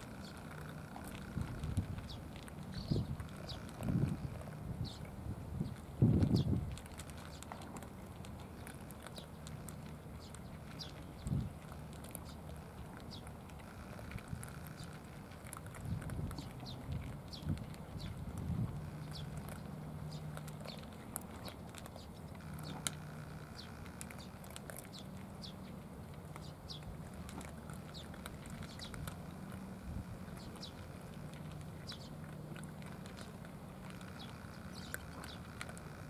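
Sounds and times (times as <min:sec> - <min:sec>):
cats chewing food: 0:00.0 - 0:36.0
low hum: 0:00.0 - 0:36.0.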